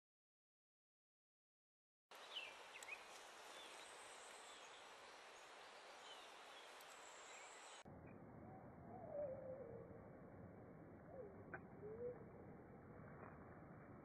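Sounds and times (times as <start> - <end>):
steady outdoor hiss: 2.1 - 14.0.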